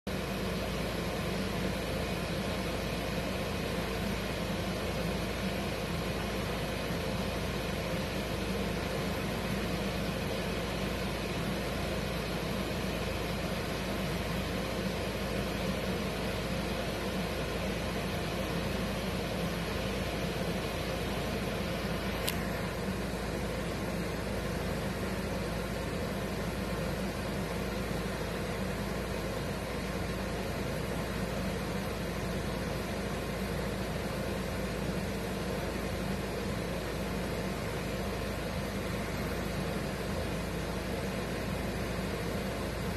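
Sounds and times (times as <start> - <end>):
low continuous hum: 0.1 - 42.9.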